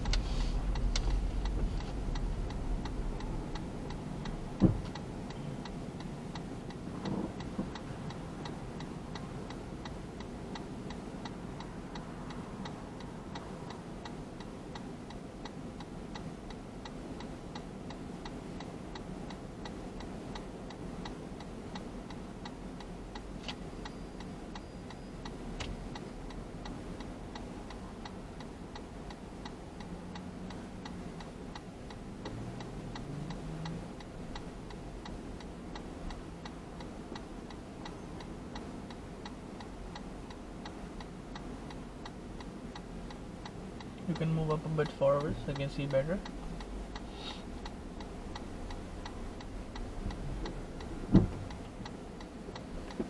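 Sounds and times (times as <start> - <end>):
car idling: 0.0 - 53.0
turn signal ticking: 0.0 - 53.0.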